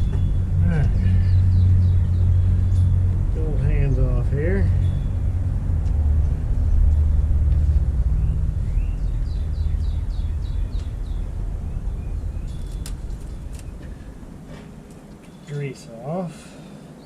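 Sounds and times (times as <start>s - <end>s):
bird chirping: 0.0s - 5.4s, 6.6s - 16.0s
loud low rumble: 0.0s - 14.9s.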